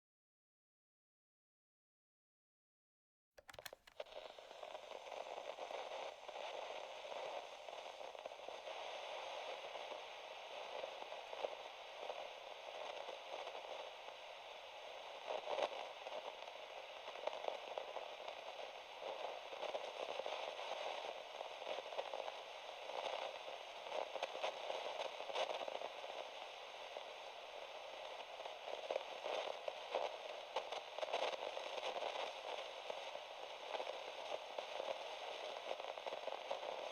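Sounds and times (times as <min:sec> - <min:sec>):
crackle with pops and clicks: 0:03.4 - 0:36.9
tape hiss and static: 0:03.4 - 0:36.9.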